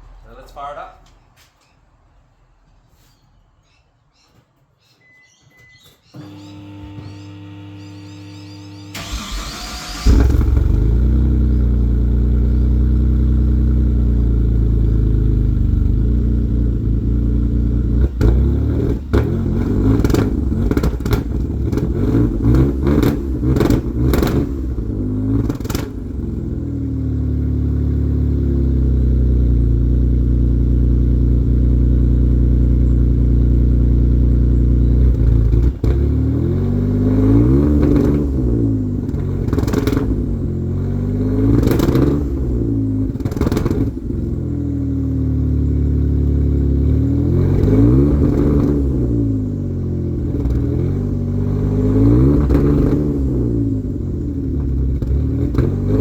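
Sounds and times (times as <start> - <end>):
car engine starting and idling: 6.0 - 56.0
engine revving: 6.2 - 56.0.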